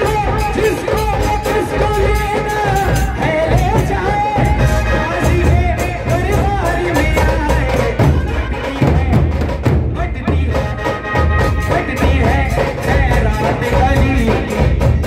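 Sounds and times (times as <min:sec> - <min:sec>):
heavy drum beats: 0:00.0 - 0:15.0
man singing into a microphone: 0:00.0 - 0:15.0.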